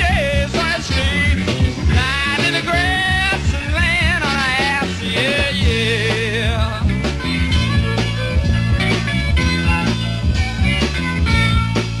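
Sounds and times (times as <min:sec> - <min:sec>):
blues-rock band instrumental: 0:00.0 - 0:12.0
electric guitar: 0:00.0 - 0:12.0.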